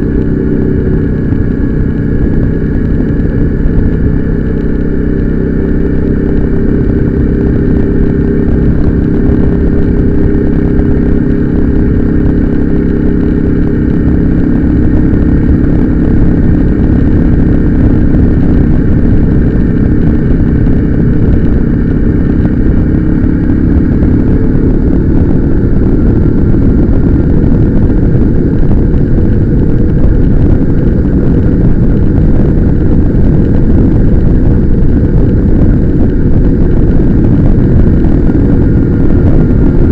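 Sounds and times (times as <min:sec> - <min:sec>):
low rushing noise: 0:00.0 - 0:39.9
motorcycle engine running: 0:00.0 - 0:39.9.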